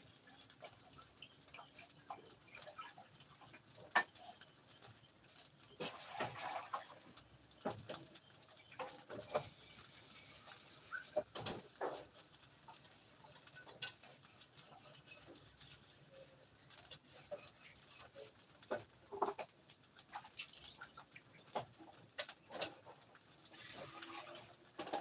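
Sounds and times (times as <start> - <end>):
faint clicks and knocks: 0.0 - 25.0.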